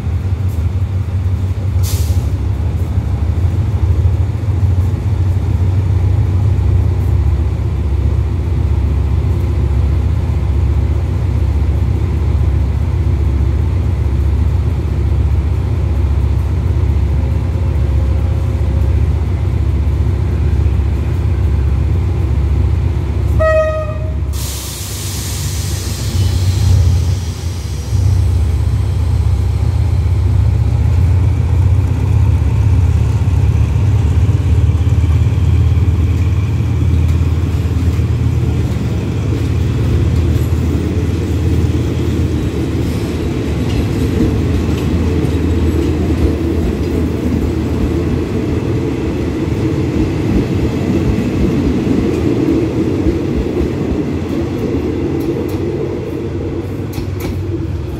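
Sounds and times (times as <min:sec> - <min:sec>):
diesel locomotive drone: 0:00.0 - 0:57.9
train wheels rumbling: 0:00.0 - 0:57.9.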